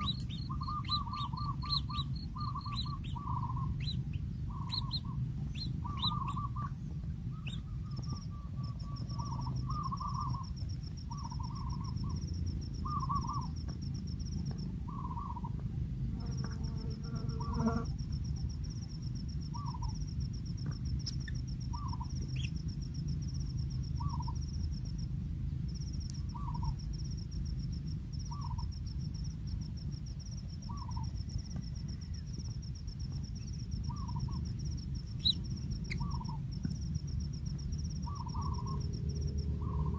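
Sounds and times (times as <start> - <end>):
insect trilling high-pitched: 0.0 - 13.7, 16.2 - 24.9, 26.1 - 27.3, 30.2 - 39.9
low background rumble: 0.0 - 39.9.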